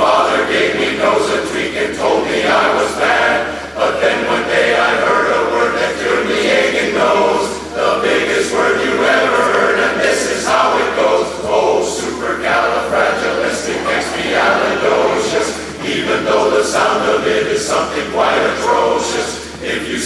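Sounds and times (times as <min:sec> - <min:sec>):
male chorus singing a cappella: 0:00.0 - 0:20.0.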